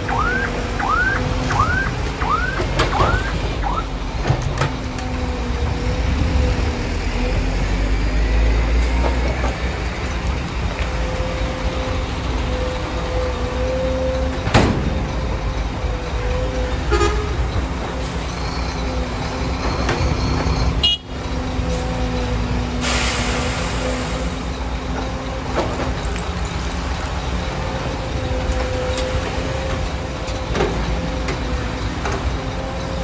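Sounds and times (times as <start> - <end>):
heavy machinery diesel engines: 0.0 - 33.0.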